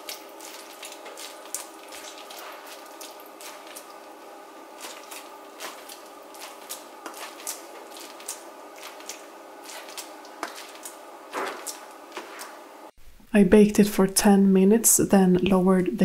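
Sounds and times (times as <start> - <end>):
dough squelch: 0.0 - 12.9
dough squishing: 0.0 - 12.9.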